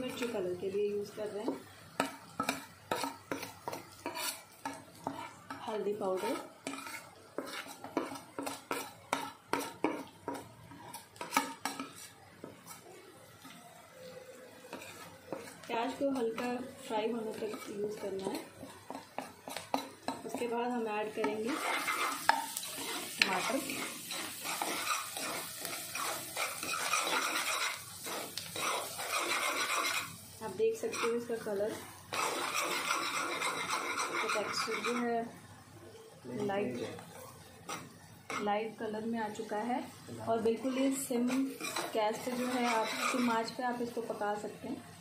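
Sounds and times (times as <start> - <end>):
spoon scraping metal pan: 0.0 - 12.9, 14.6 - 35.2, 37.6 - 38.6, 40.5 - 44.2
onions sizzling in oil: 0.0 - 45.0.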